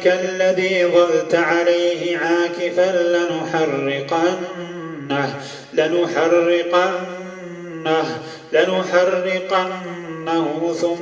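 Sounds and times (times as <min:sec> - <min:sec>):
man chanting melodic recitation: 0:00.0 - 0:11.0.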